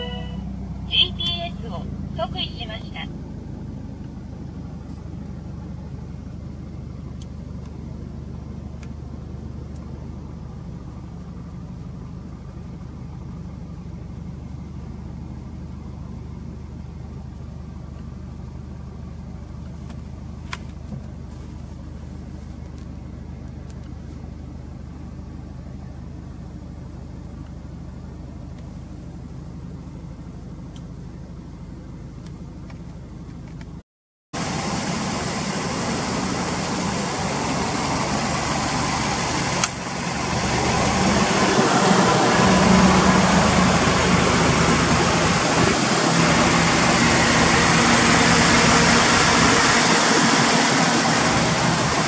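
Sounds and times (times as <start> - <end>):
car engine idling: 0.0 - 33.8, 34.4 - 52.0.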